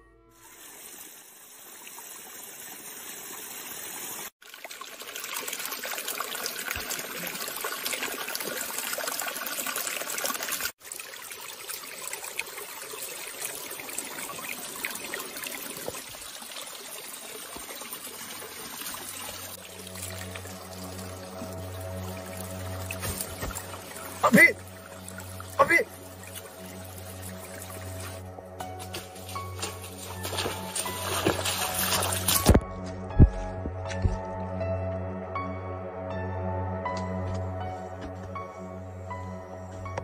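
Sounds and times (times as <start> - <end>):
water trickling: 0.4 - 32.7.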